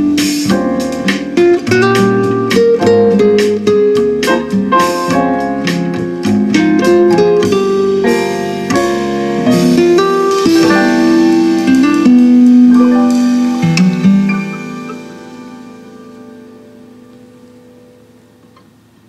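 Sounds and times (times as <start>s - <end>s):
guitar and piano music on speakers: 0.0s - 19.0s.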